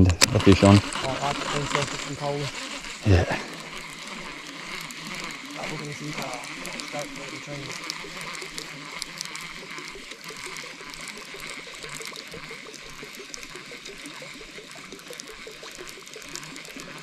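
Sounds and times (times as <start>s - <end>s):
river water trickling and gurgling: 0.0s - 17.0s.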